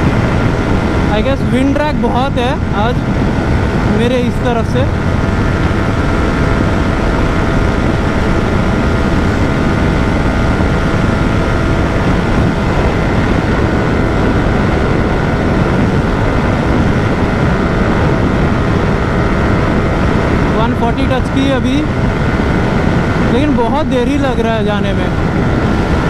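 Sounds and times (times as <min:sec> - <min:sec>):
motorcycle engine droning: 0:00.0 - 0:26.0
wind rush on microphone: 0:00.0 - 0:26.0.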